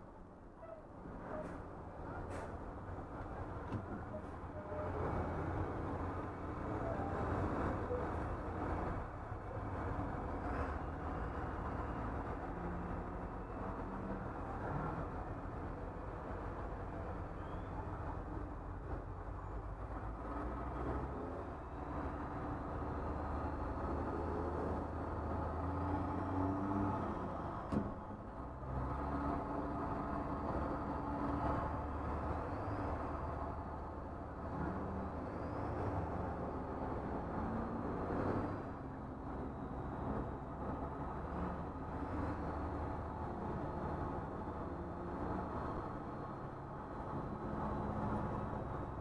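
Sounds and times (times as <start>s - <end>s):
bus engine rumble: 0.0s - 49.0s.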